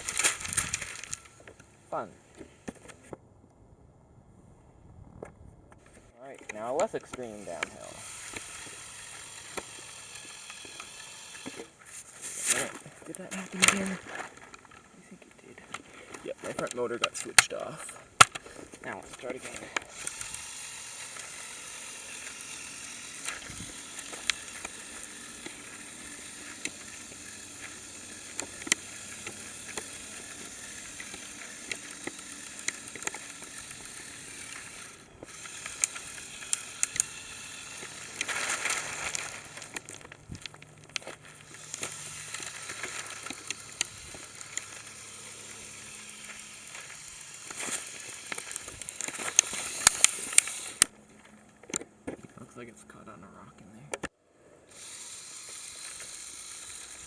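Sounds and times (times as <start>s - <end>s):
plastic parts clattering: 0.0s - 1.6s, 5.9s - 50.9s
small electric motors humming: 0.0s - 3.2s, 5.7s - 57.0s
tyres crunching on rocks: 0.0s - 3.2s, 5.7s - 53.9s.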